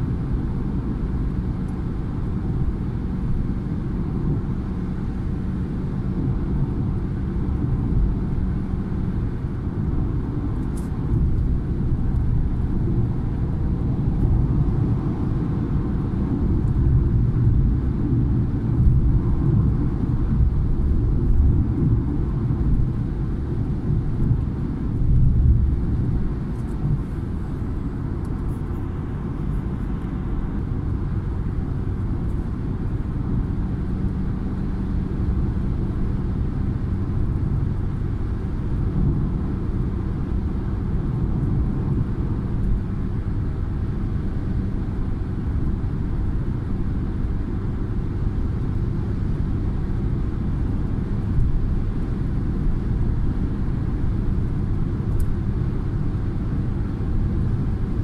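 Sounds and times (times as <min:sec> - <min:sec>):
car tyres and engine rumble: 0:00.0 - 0:58.0.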